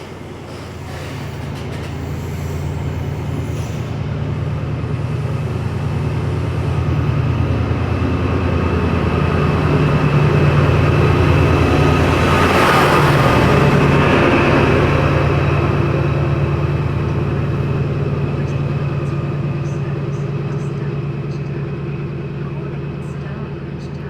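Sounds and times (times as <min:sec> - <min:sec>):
locomotive engine droning: 0:00.0 - 0:24.0.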